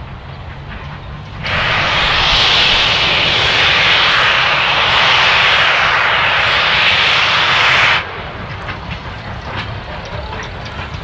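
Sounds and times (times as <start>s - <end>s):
steam engine venting steam hiss: 0.6s - 10.5s.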